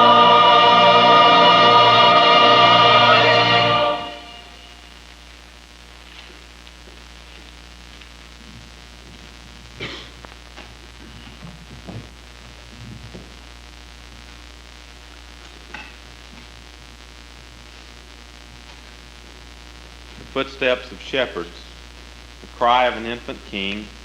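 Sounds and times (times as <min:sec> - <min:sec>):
mains hum: 0:00.0 - 0:24.0
tape hiss: 0:00.0 - 0:24.0.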